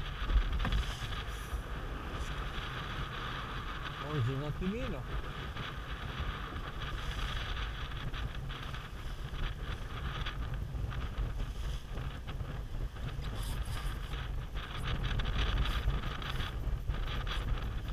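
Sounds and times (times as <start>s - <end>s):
water rushing along hull: 0.0s - 17.9s
wind buffeting microphone: 0.0s - 17.9s.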